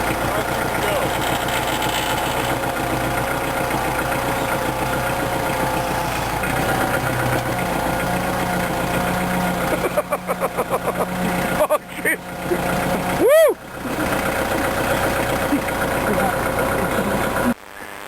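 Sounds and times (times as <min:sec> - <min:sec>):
tractor engine running: 0:00.0 - 0:17.6.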